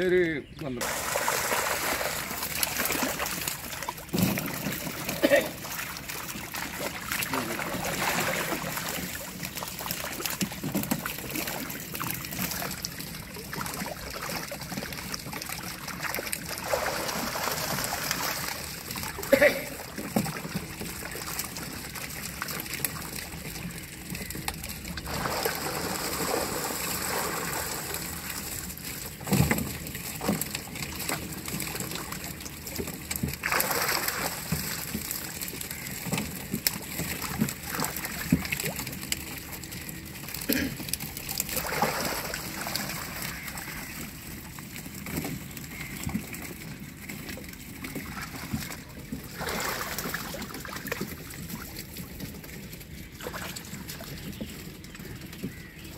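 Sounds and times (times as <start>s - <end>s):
water sloshing and splashing: 0.8s - 55.9s.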